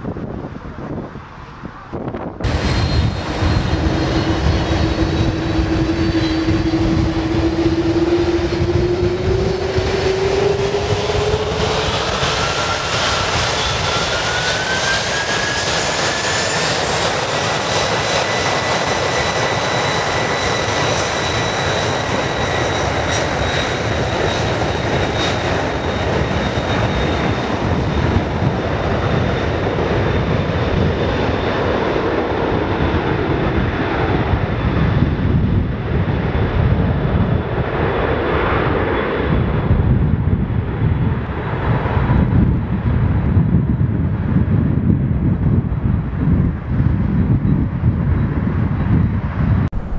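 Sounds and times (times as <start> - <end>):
jet engines roaring: 0.0 - 49.9
jet engine whine rising: 0.2 - 40.0, 49.0 - 49.9.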